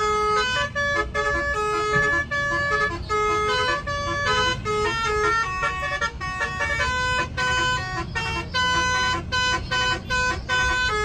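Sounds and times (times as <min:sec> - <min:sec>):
engine rumbling: 0:00.0 - 0:11.0
musical air horn tune: 0:00.0 - 0:11.0.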